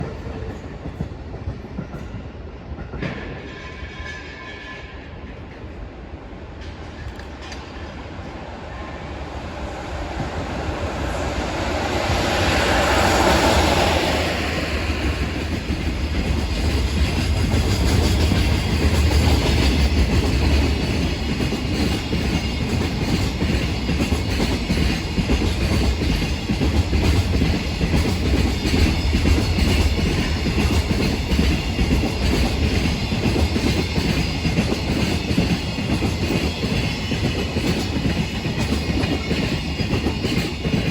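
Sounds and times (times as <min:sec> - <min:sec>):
electric locomotive passing: 0:00.0 - 0:40.9.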